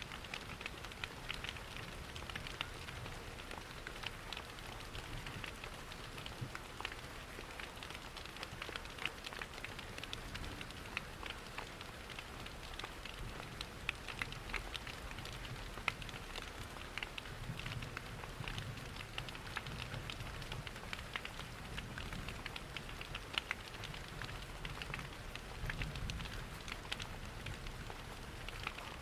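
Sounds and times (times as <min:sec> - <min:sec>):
fireplace crackles: 0:00.0 - 0:29.0
rain hiss: 0:00.0 - 0:29.0.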